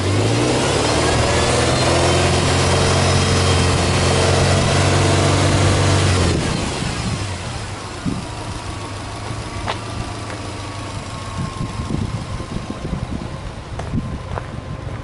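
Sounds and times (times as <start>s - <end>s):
engine revving: 0.0s - 13.4s
car engine idling: 0.0s - 15.0s.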